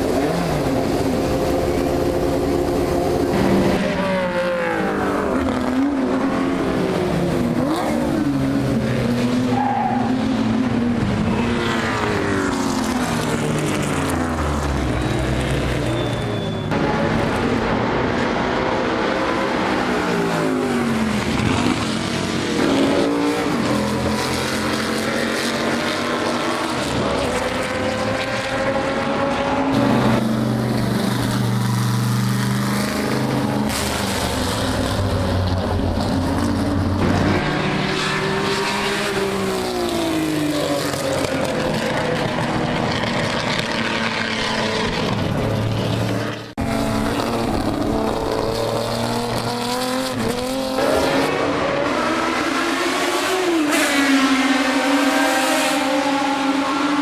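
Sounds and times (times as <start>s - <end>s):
racing cars passing by: 0.0s - 57.0s.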